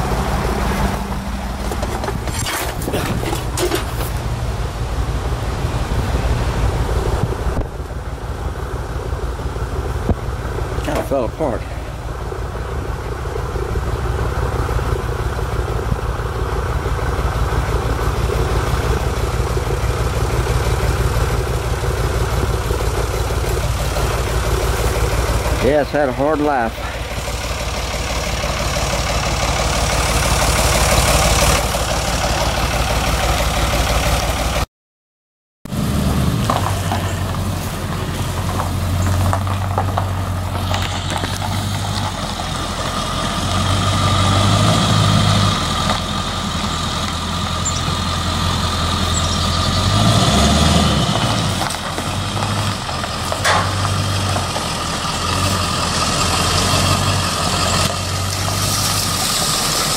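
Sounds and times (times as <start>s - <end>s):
pickup truck engine: 0.0s - 34.7s, 35.7s - 59.9s.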